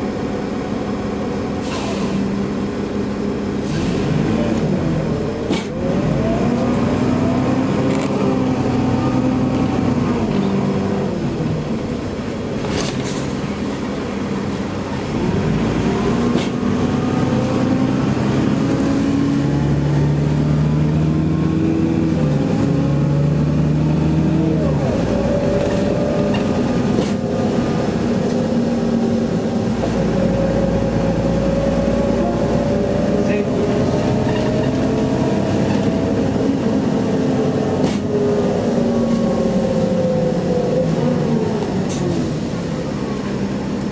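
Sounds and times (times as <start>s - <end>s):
bus drivetrain running loudly: 0.0s - 43.9s.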